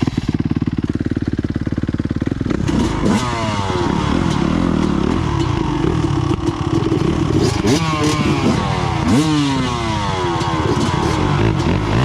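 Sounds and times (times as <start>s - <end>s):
dirt bike engines revving: 2.0s - 12.0s.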